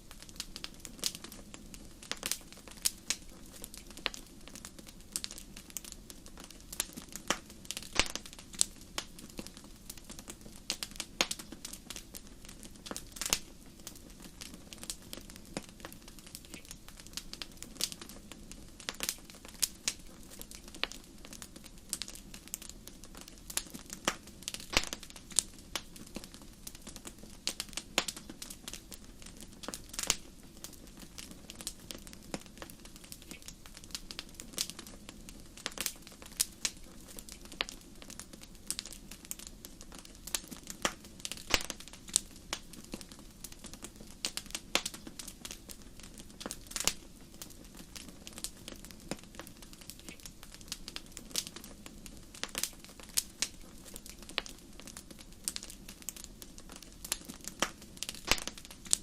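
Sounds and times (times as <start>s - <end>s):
hiss of flames: 0.0s - 59.0s
wood fire crackling and popping: 0.0s - 59.0s.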